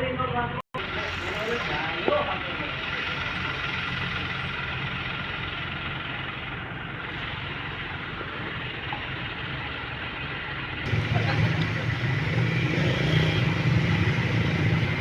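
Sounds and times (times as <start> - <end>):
heavy engine running: 0.8 - 15.0.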